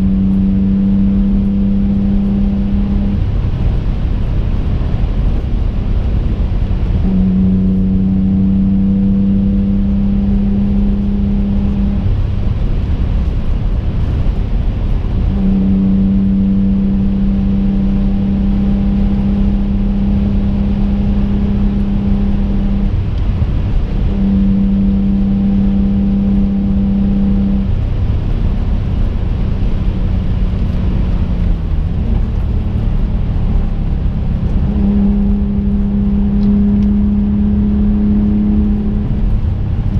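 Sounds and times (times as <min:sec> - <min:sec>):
car engine drone: 0:00.0 - 0:39.9
road and tyre rumble: 0:00.0 - 0:39.9.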